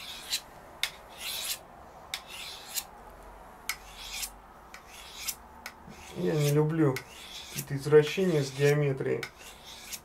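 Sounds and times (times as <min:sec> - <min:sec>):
knife rasping on sharpening stone: 0:00.0 - 0:01.6, 0:02.2 - 0:02.9, 0:03.7 - 0:10.0.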